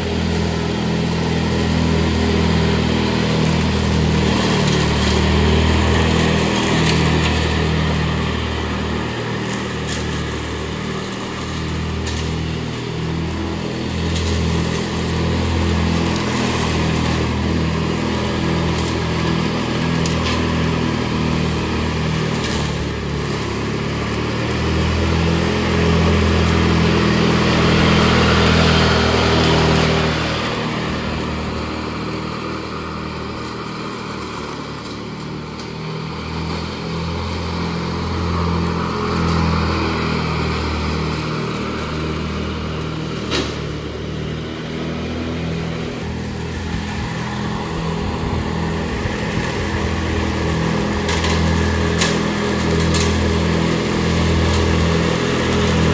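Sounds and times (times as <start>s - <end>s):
riding lawn mower engine: 0.0s - 55.9s.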